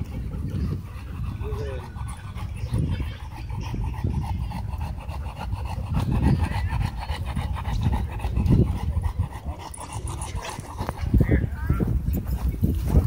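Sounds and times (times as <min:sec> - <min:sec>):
dog panting: 0:00.0 - 0:11.5.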